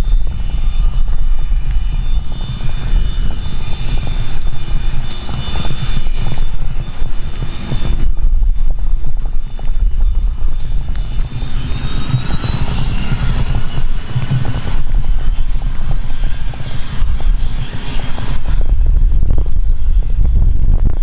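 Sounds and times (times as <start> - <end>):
jet turbine whine: 0.0 - 21.0
wind buffeting microphone: 0.0 - 21.0.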